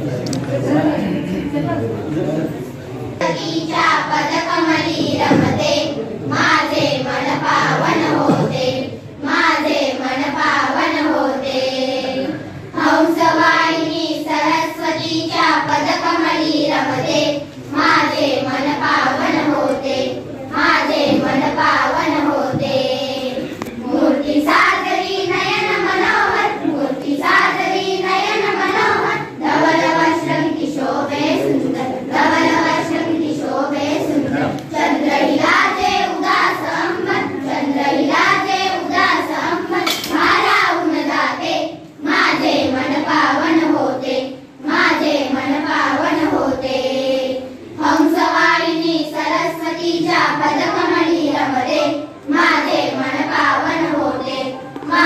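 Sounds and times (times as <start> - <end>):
girls singing together: 3.1 - 55.0.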